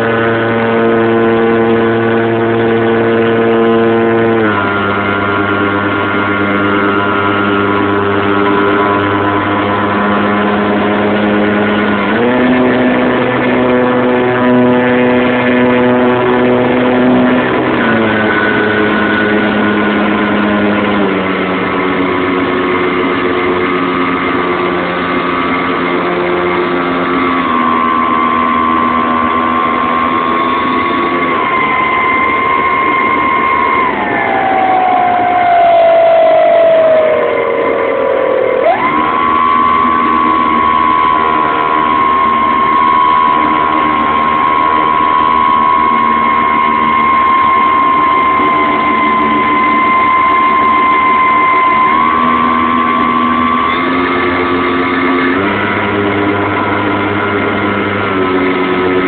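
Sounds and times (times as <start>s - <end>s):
model airplane motor and propeller: 0.0s - 59.0s.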